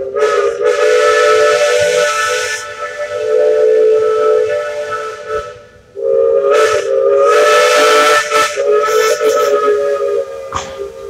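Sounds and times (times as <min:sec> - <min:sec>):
escaping steam hiss: 0:00.0 - 0:11.0
steam locomotive whistle: 0:00.0 - 0:11.0.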